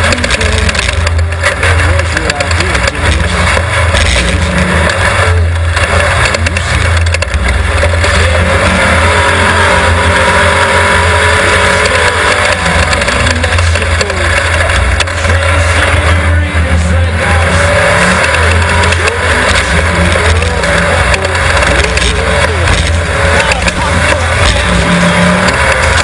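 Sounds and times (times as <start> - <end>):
race car engine drone: 0.0 - 26.0
tyre noise: 0.0 - 26.0.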